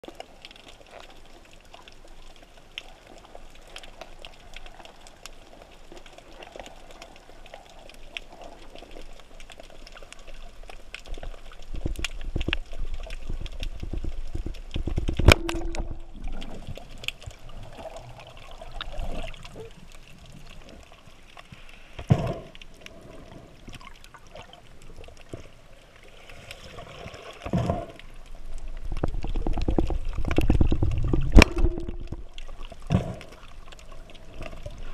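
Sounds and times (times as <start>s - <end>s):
water rushing and gurgling: 0.0s - 34.9s.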